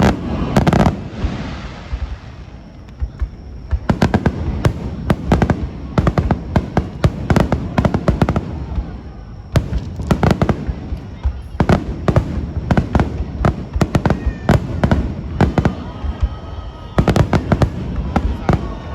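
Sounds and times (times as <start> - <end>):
fireworks bangs and crackles: 0.0 - 18.9.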